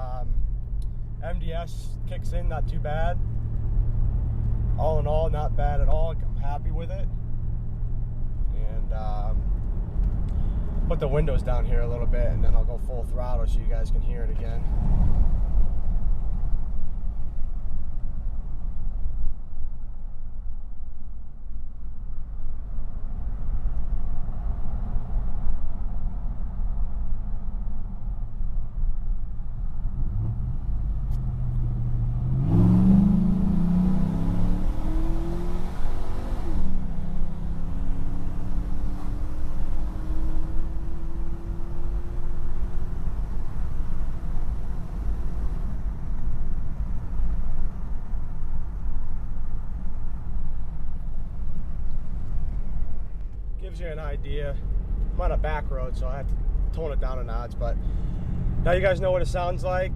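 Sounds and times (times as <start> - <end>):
car exhaust rumble while driving: 0.0 - 59.9.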